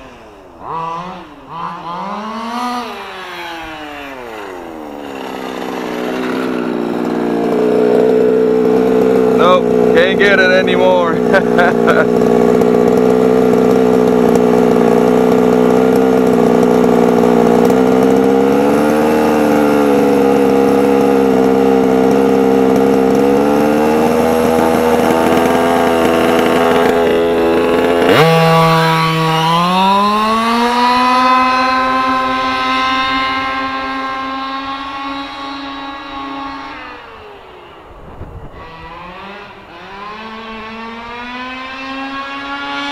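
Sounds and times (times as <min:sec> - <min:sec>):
two-stroke engine running hard: 0:00.0 - 0:42.9.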